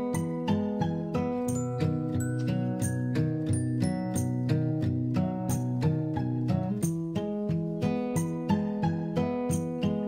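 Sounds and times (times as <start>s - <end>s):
plucked instrumental music: 0.0s - 10.0s.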